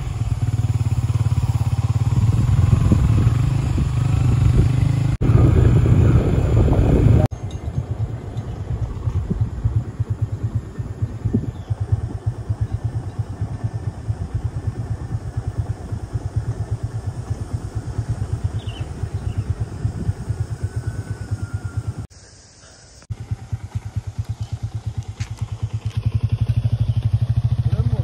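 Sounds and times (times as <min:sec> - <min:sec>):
motorcycle engine running: 0:00.0 - 0:22.1, 0:23.1 - 0:28.0.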